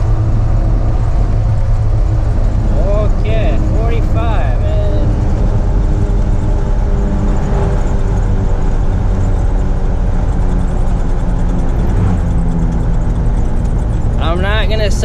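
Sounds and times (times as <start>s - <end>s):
road and tyre rumble: 0.0s - 15.0s
truck engine running: 0.0s - 15.0s.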